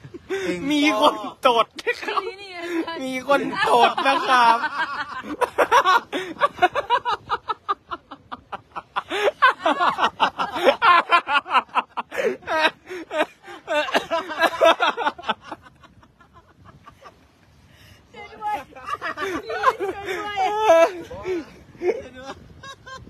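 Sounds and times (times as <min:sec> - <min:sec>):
people laughing hard: 0:01.8 - 0:17.1, 0:18.6 - 0:23.0.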